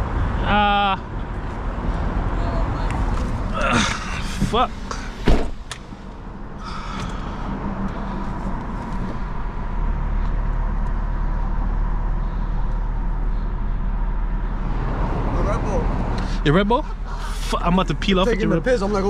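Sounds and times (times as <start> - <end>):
car engine humming: 0.0 - 19.0.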